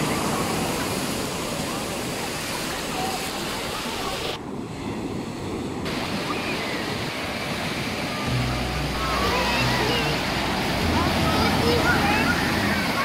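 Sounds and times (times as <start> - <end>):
sea surf rushing: 0.0 - 13.0.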